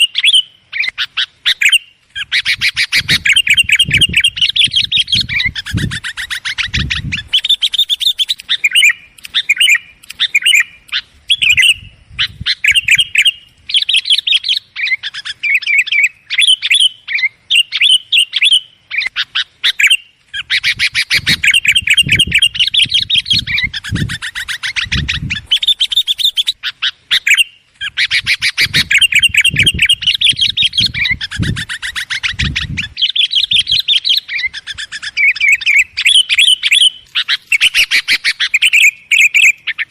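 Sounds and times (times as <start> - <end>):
bird chattering high chirps: 0.0 - 39.9.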